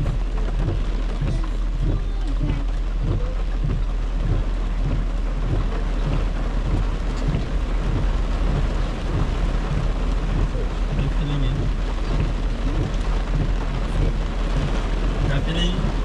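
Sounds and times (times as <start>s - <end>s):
car low rumble: 0.0s - 16.0s
heavy rain on car windshield: 0.0s - 16.0s.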